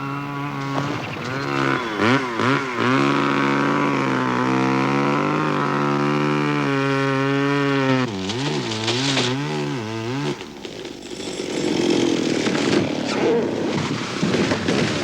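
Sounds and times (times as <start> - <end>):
chainsaw running: 0.0 - 15.0.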